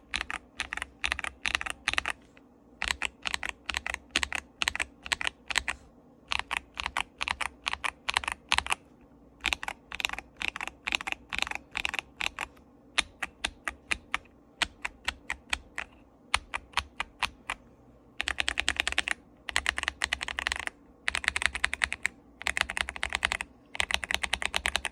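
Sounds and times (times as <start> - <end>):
mechanical keyboard typing: 0.0 - 2.2, 2.8 - 8.8, 9.4 - 17.6, 18.2 - 24.9.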